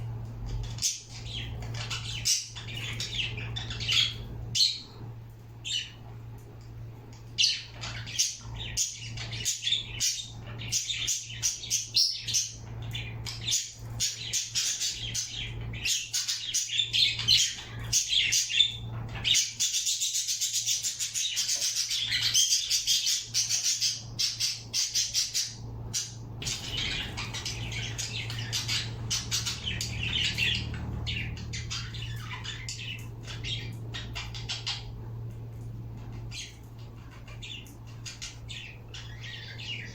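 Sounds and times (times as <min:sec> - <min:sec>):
birds chirping and squawking: 0:00.0 - 0:39.9
steady low hum: 0:00.0 - 0:39.9.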